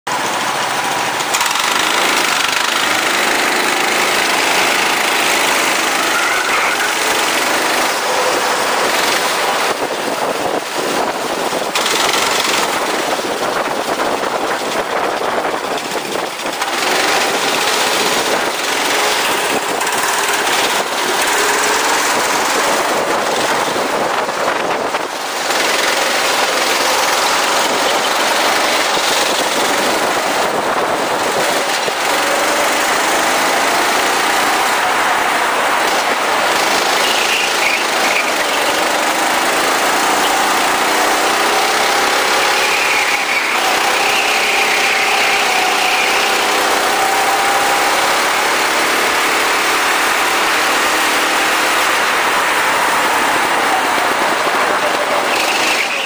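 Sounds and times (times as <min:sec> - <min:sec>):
go-kart engine running hard: 0:00.0 - 0:56.0
steady rush of noise: 0:00.1 - 0:56.0.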